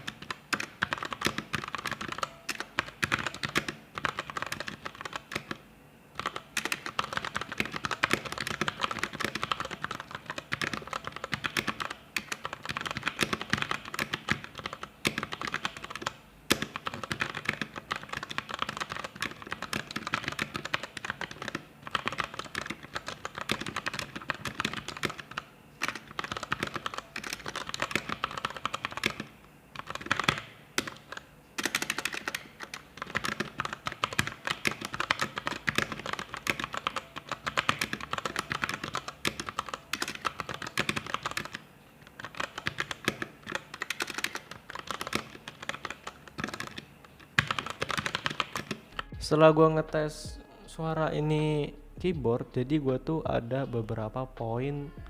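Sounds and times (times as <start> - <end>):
fast mechanical keyboard typing: 0.0 - 49.1.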